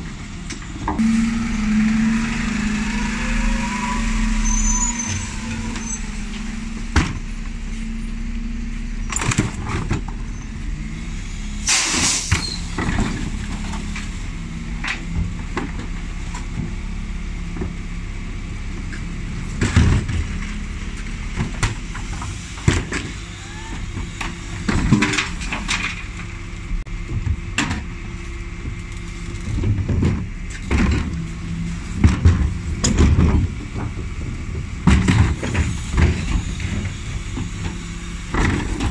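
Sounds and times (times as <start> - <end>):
diesel lorry engine running: 0.0 - 38.9.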